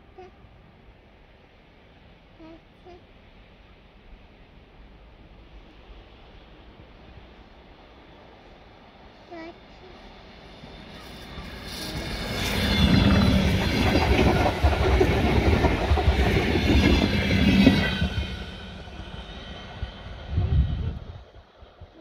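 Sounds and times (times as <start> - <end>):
train wheels on rails: 3.6 - 22.0.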